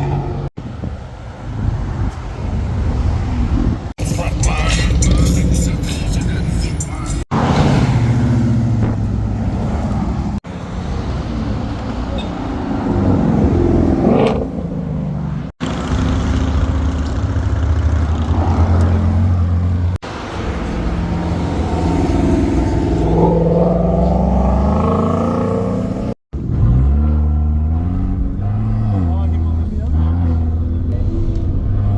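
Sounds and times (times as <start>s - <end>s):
car engines revving: 0.0s - 31.9s
car accelerating hard: 4.0s - 17.0s, 17.8s - 31.9s.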